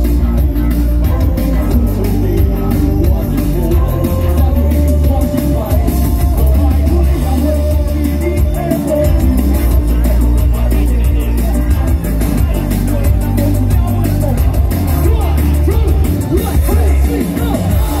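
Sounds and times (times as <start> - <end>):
heavy bass and drum beat: 0.0 - 18.0
song over loudspeakers: 0.0 - 18.0
voices on microphones: 0.0 - 18.0.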